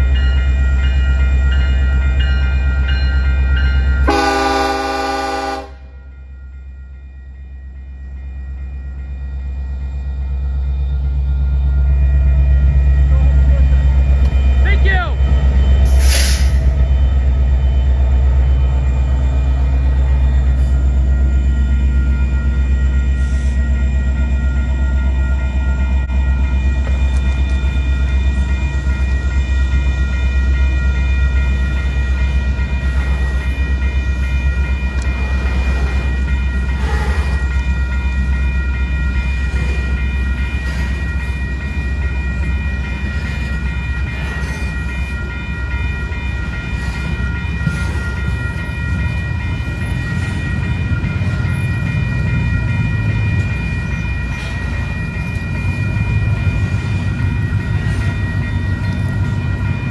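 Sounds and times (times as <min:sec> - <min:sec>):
crossing warning bell ringing: 0:00.0 - 0:59.9
freight train rumbling past: 0:00.0 - 0:59.9.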